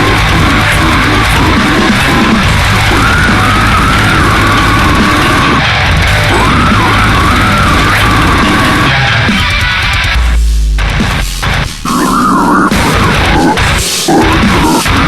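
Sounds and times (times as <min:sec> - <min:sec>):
heavy metal music: 0:00.0 - 0:15.0.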